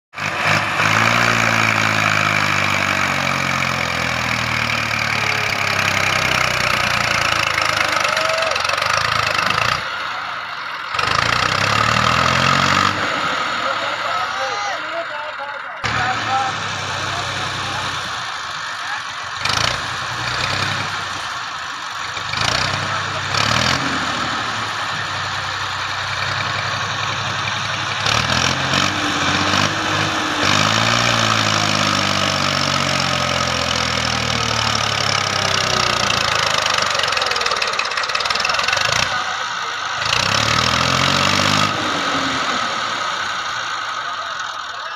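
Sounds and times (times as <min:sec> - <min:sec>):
tractor diesel engine revving: 0:00.1 - 0:44.9.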